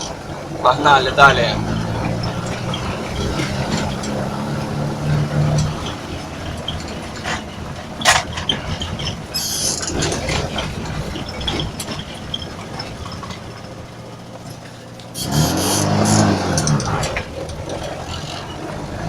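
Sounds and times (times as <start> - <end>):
car engine rumbling: 0.0 - 19.0
sharp knocks and rattles: 0.0 - 19.0.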